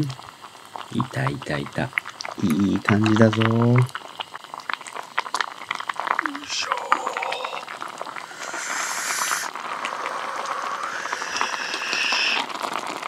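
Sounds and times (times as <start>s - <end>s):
broth bubbling in a pot: 0.0s - 13.0s.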